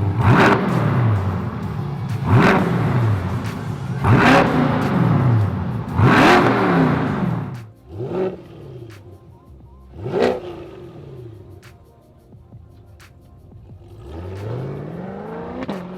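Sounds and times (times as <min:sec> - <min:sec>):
car engine revving: 0:00.0 - 0:11.8, 0:12.7 - 0:15.9.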